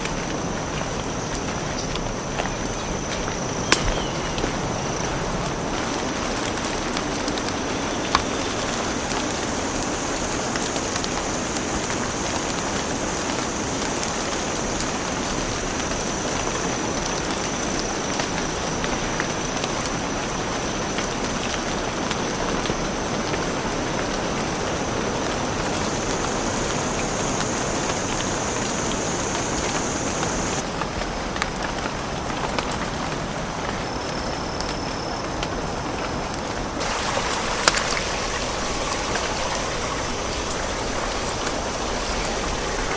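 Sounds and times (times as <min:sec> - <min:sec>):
rain pattering on foliage: 0:00.0 - 0:42.9.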